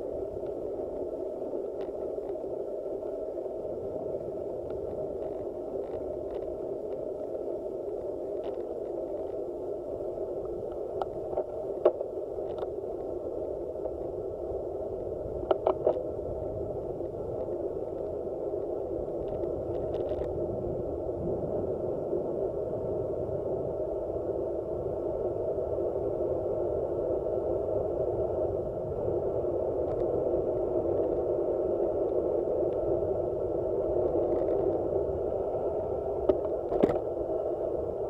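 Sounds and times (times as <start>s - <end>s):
rushing wind: 0.0s - 38.0s.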